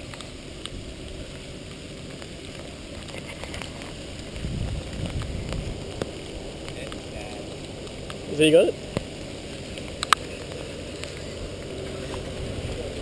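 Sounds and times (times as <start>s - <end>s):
small ticks: 0.0s - 12.3s
engine running under load: 0.0s - 13.0s.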